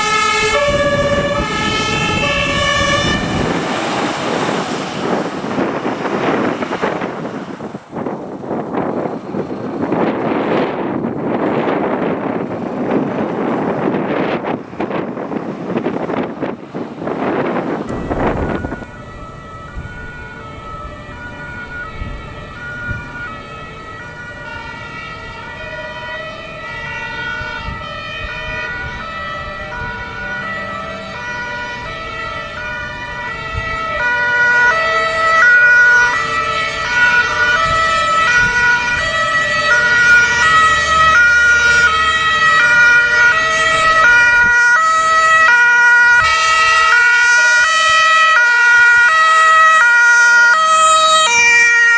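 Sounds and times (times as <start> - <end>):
fire engine two-tone siren: 0.0 - 51.9.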